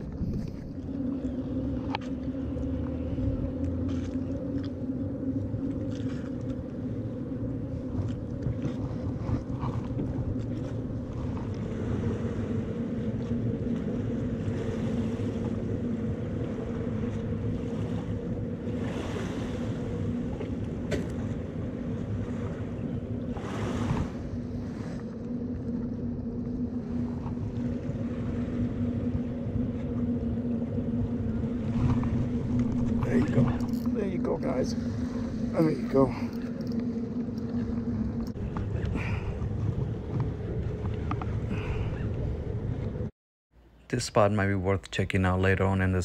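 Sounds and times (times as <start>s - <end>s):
wind rumble on microphone: 0.0s - 43.1s
steady engine drone: 0.0s - 46.0s.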